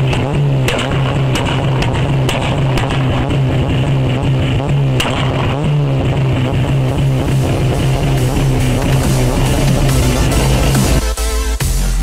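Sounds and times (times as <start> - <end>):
car engine on rev limiter: 0.0 - 11.0
exhaust cracks: 0.0 - 11.0.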